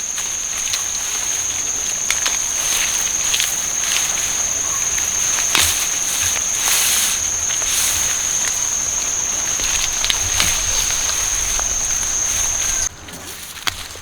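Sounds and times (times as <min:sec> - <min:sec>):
insects droning: 0:00.0 - 0:14.0
small clicks and rustles: 0:00.0 - 0:14.0.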